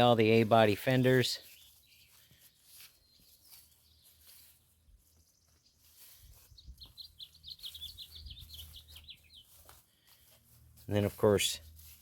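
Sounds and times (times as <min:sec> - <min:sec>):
songbird chirping trill: 0:00.0 - 0:12.0.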